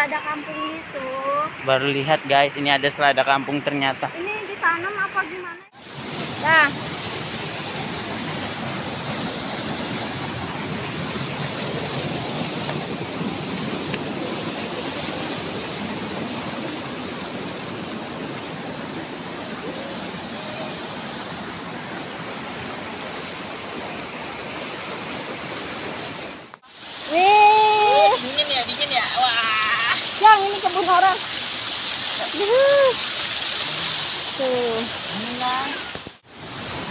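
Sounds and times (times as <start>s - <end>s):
river water rushing over rocks: 4.8s - 36.9s.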